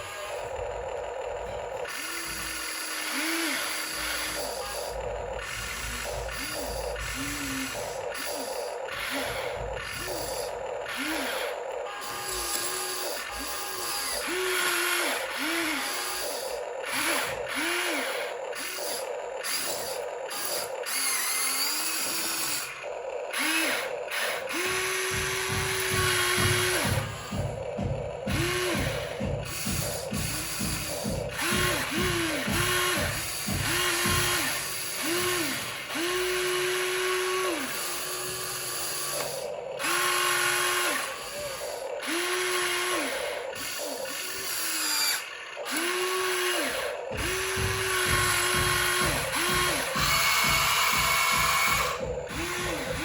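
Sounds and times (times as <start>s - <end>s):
gear clatter: 0.0s - 53.0s
small electric motor whining: 0.0s - 53.0s.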